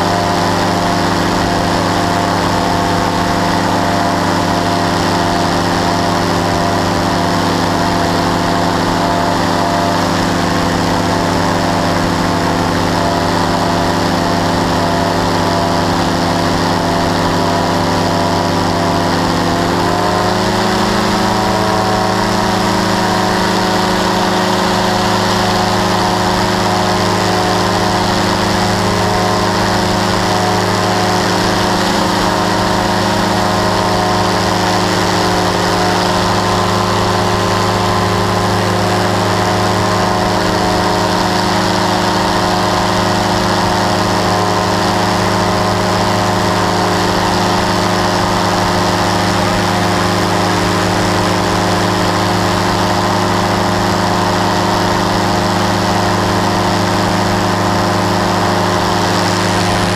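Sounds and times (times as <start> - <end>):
engine and propeller running: 0.0 - 59.9.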